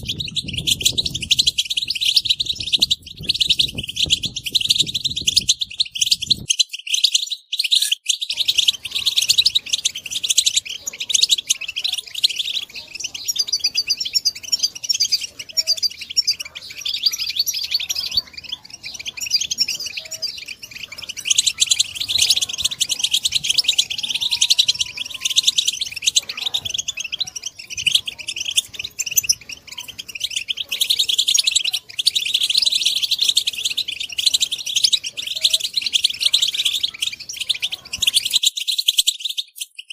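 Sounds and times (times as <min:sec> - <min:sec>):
finches chattering and twittering: 0:00.0 - 0:39.9.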